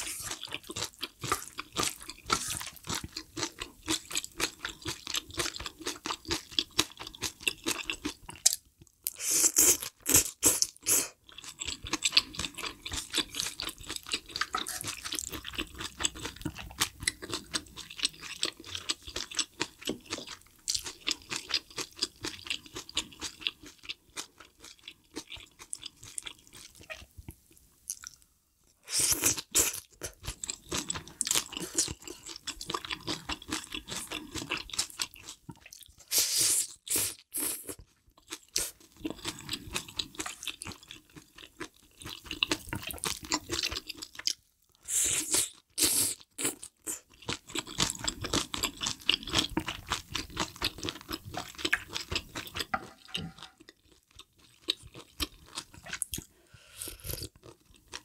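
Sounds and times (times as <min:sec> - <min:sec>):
close chewing and crunching: 0:00.0 - 0:28.2, 0:28.8 - 0:58.0.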